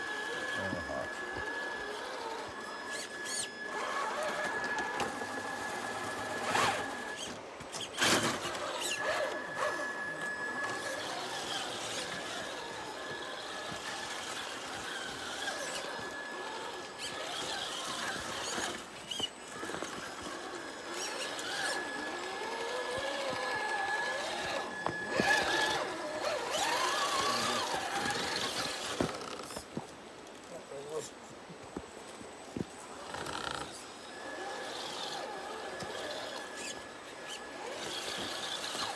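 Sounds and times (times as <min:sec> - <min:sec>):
electric motors whining: 0:00.0 - 0:31.0, 0:31.8 - 0:38.9.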